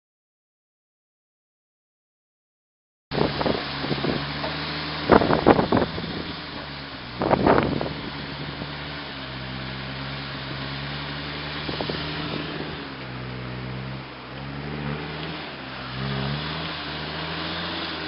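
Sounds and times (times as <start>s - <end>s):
truck engine revving: 3.1s - 18.0s.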